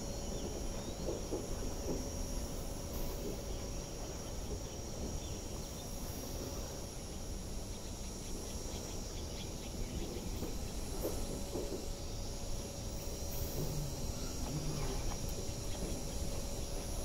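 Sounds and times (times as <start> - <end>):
electric train rumbling on track: 0.0 - 17.0
insects chirring: 0.0 - 17.0.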